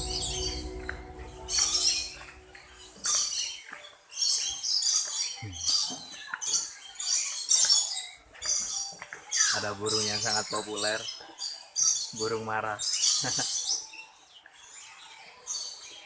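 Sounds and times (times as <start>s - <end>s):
small birds chattering and squawking: 2.8s - 16.0s.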